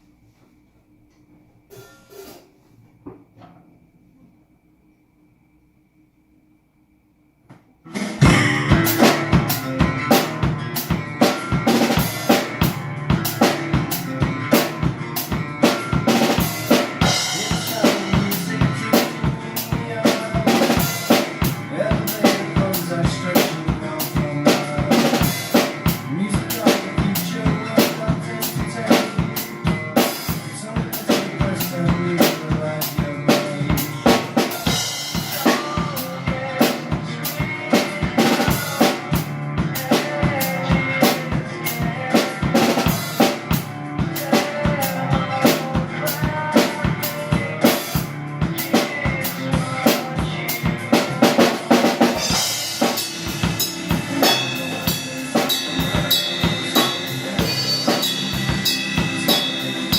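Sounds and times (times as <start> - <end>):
drum kit rock groove: 1.7 - 2.6, 7.9 - 59.9
band music: 7.9 - 59.9.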